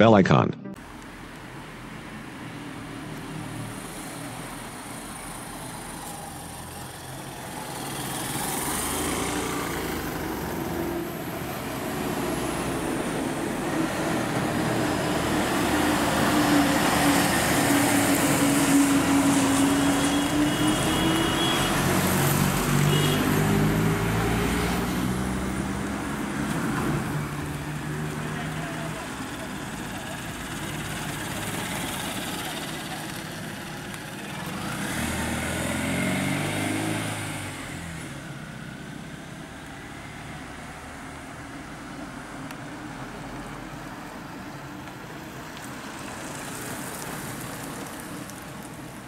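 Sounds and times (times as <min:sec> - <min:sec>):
bus diesel engine labouring: 0:00.3 - 0:49.0.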